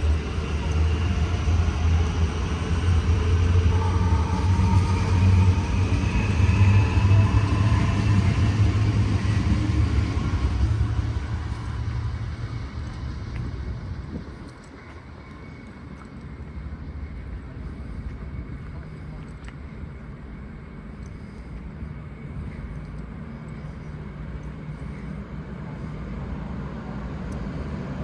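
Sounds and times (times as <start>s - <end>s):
diesel train low rumble: 0.0s - 28.0s
faint whine: 0.0s - 28.0s.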